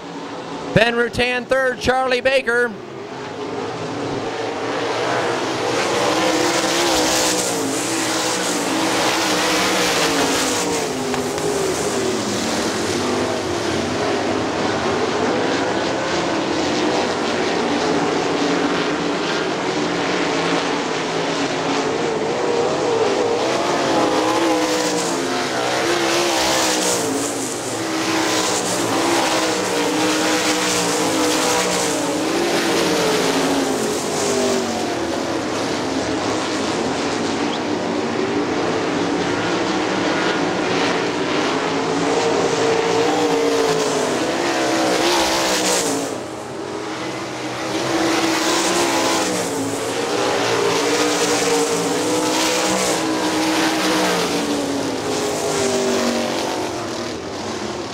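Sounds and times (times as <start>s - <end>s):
race car engines racing: 0.0s - 57.9s.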